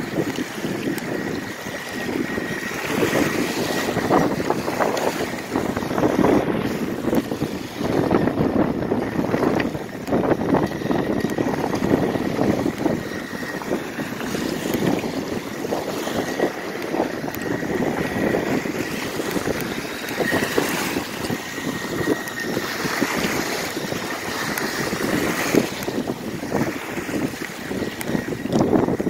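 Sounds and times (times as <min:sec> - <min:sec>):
model boat motor whine: 0:00.0 - 0:29.0
small waves breaking: 0:00.0 - 0:29.0
wind buffeting microphone: 0:00.0 - 0:29.0.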